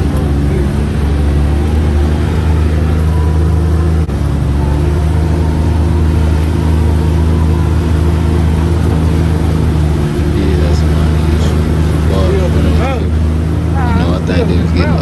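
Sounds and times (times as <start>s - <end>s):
utv engine running: 0.0s - 15.0s.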